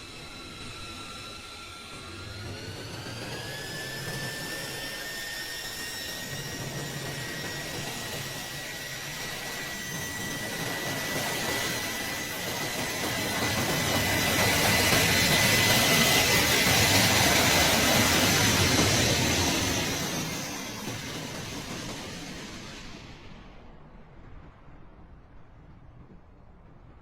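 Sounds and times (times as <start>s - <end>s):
jet engine high whine: 0.0s - 27.0s
rushing noise: 0.0s - 27.0s.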